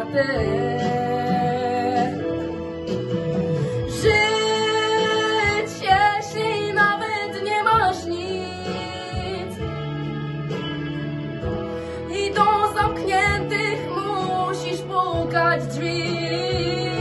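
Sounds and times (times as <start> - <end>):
backing track: 0.0 - 17.0.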